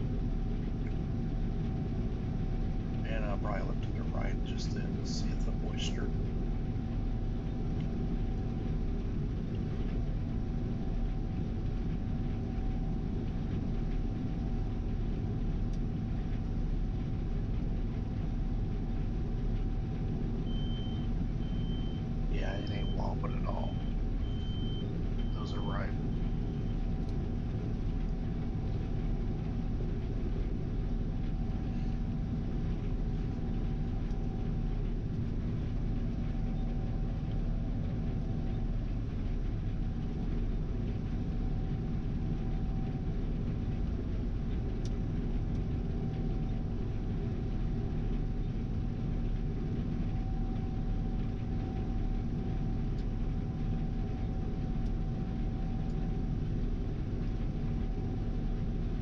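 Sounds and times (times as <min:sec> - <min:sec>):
combine machine drone: 0:00.0 - 0:59.0
steady whine: 0:00.0 - 0:59.0.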